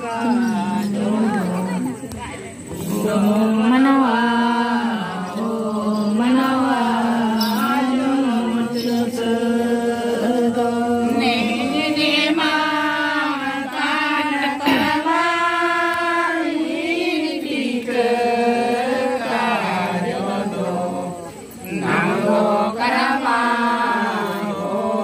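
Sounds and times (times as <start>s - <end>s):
unaccompanied chanting: 0.0s - 25.0s.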